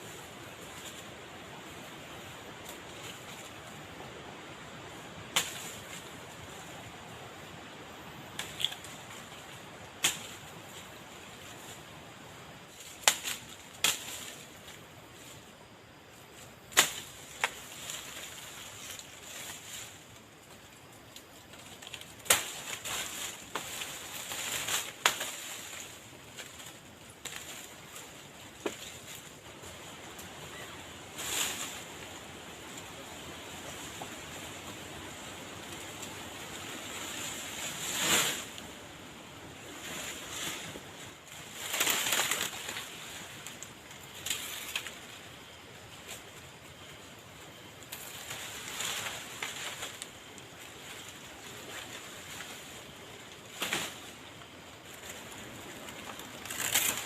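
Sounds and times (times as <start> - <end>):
outdoor hiss: 0.0 - 57.0.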